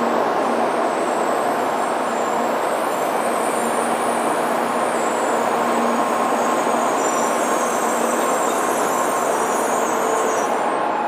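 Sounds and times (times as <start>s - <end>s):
train rushing past: 0.0s - 11.0s.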